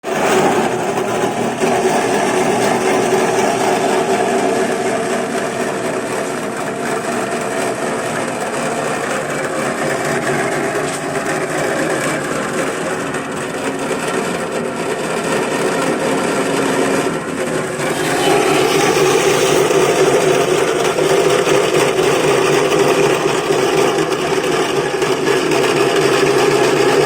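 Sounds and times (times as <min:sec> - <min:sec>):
machine whirring and rattling: 0:00.0 - 0:27.0.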